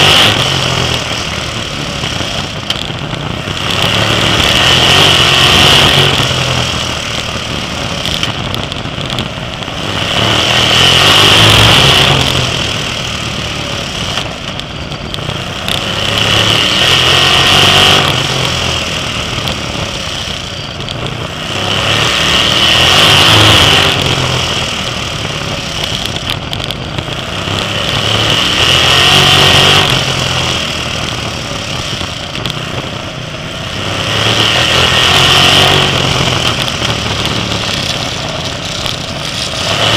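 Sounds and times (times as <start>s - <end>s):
race car engines at full throttle: 0.0s - 39.9s.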